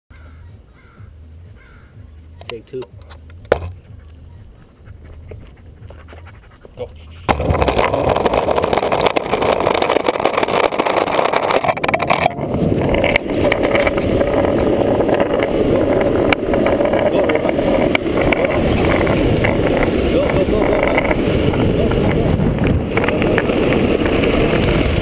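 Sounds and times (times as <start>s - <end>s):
skateboard wheels rumbling on asphalt: 3.2s - 25.0s.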